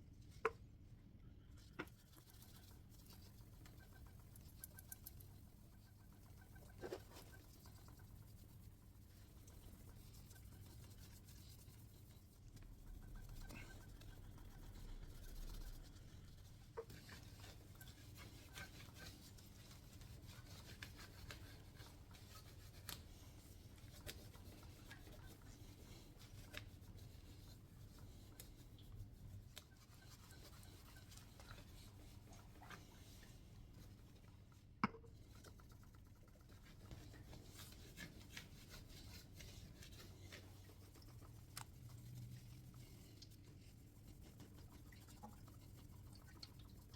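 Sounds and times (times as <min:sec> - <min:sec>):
cloth rubbing on metal: 0:01.6 - 0:34.5, 0:35.4 - 0:46.9.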